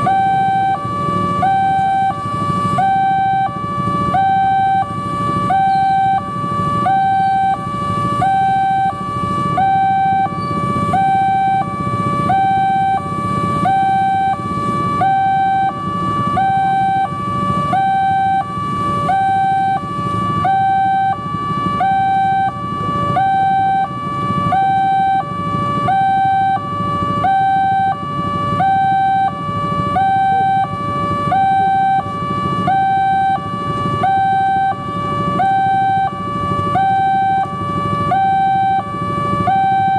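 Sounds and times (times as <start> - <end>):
two-tone crossing warning chime: 0.0 - 39.9.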